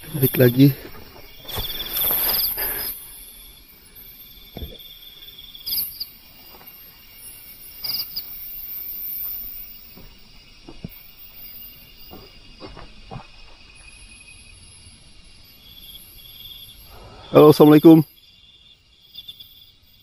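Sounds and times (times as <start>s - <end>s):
crickets chirping: 0.0s - 20.0s
insect pulsed trills: 0.0s - 20.0s.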